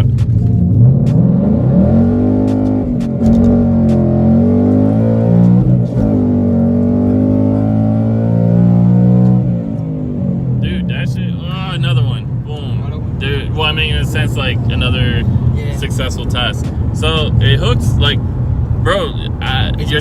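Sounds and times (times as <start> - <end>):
car engine revving at full throttle: 0.0 - 20.0.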